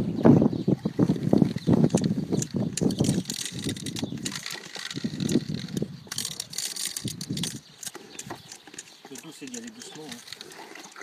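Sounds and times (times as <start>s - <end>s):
hand pump clicking: 1.4s - 11.0s.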